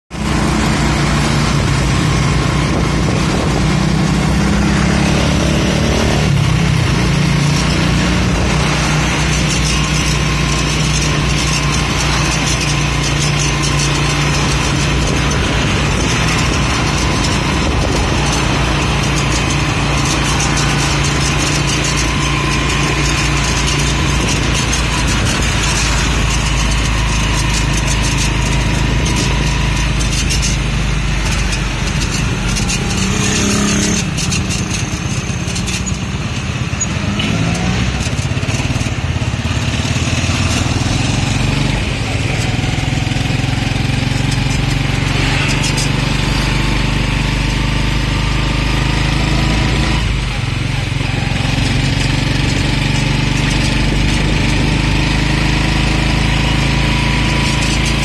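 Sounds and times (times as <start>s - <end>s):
vehicle engine running: 0.1s - 58.0s
wind and road noise: 0.1s - 58.0s.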